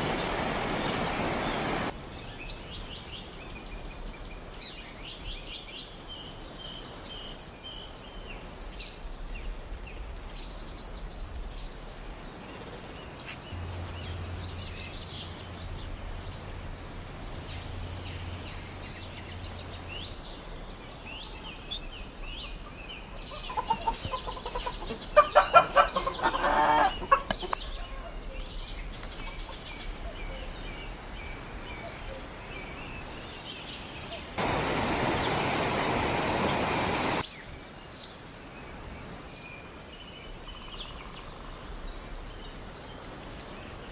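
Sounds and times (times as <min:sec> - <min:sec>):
small birds chirping: 0:00.0 - 0:26.3, 0:27.0 - 0:43.9.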